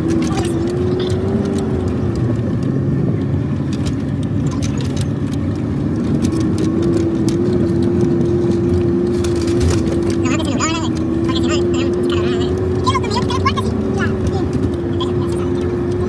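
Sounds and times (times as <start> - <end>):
cab clicks and rattles: 0.0 - 16.0
constant whine: 0.0 - 16.0
truck engine and tyre noise: 0.0 - 16.0.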